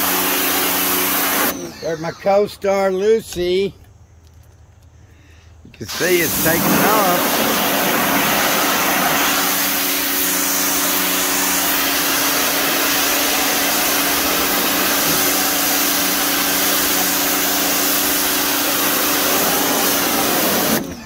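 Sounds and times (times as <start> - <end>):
high-pressure water jet hissing: 0.0 - 2.5, 5.8 - 21.0
pressure washer motor hum: 0.0 - 2.5, 5.9 - 21.0.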